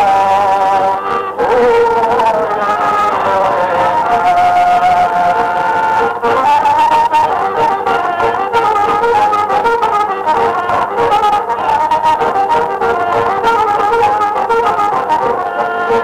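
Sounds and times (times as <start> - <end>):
accordion folk melody: 0.0 - 16.0
rhythmic band accompaniment: 0.0 - 16.0.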